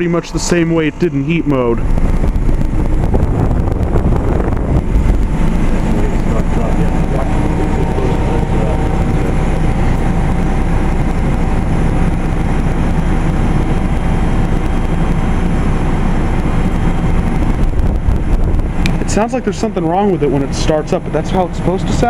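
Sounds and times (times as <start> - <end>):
heat pump outdoor unit rumble: 0.0 - 22.0
thin whine: 0.0 - 22.0.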